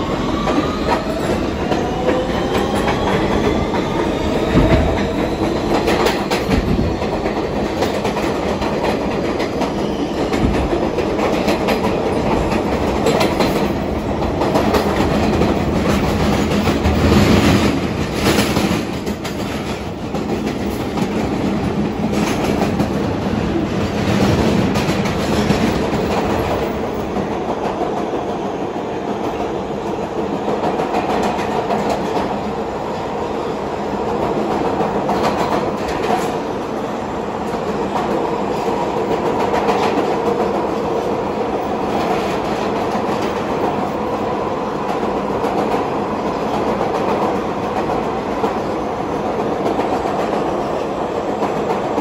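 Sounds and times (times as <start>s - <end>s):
subway traction motors whining: 0.0s - 52.0s
train rumbling in tunnel: 0.0s - 52.0s.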